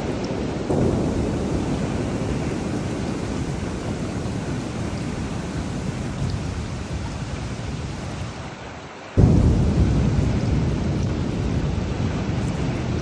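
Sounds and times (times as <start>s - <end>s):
thunder rumbling: 0.0s - 8.4s, 9.2s - 13.0s
rain falling: 0.0s - 13.0s.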